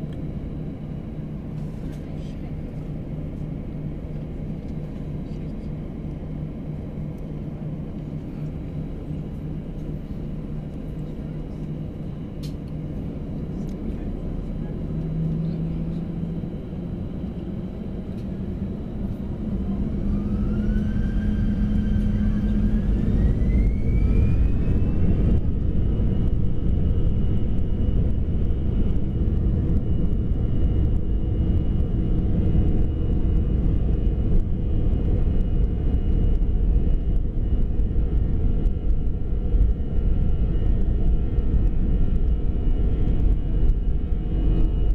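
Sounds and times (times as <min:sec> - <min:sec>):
jet engine high whine: 0:00.0 - 0:44.9
jet engine low rumble: 0:00.0 - 0:44.9.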